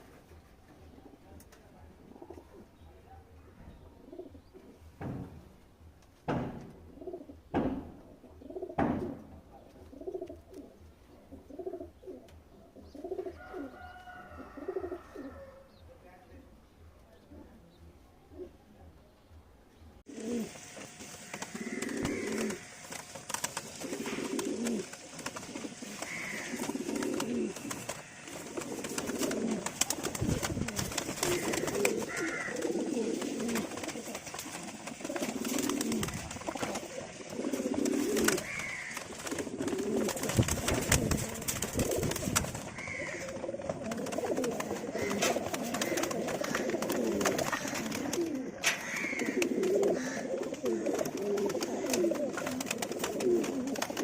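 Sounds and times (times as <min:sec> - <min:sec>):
pigeons cooing: 0:00.0 - 0:05.2, 0:06.3 - 0:15.8, 0:17.2 - 0:18.7, 0:20.0 - 0:54.0.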